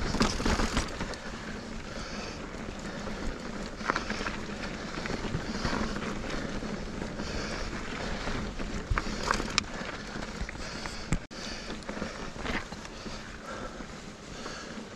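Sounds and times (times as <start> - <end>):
bike knocking and rattling: 0.0 - 14.9
tyres crunching on rocky dirt: 0.0 - 14.9.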